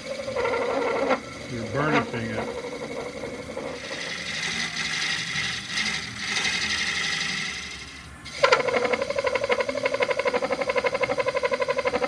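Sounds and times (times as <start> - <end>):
wood rubbing on wood on lathe: 0.0 - 12.0.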